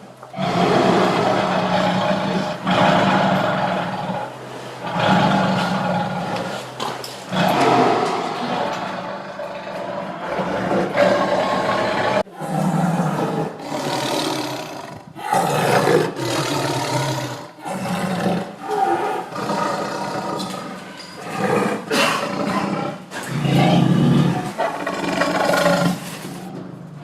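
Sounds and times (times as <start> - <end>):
tiger roaring and growling: 0.3 - 27.0.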